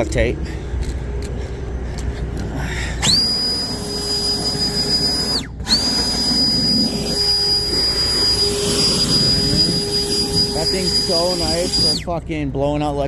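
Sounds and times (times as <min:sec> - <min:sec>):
blower whining: 0:00.0 - 0:12.3.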